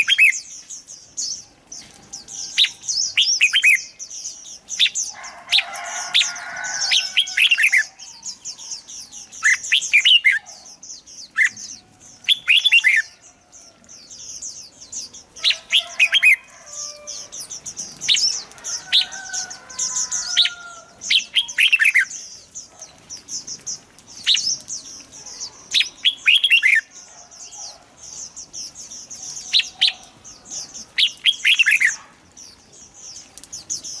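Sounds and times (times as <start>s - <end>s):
bulbuls singing: 0.0s - 34.0s
high twittering of birds: 0.0s - 34.0s.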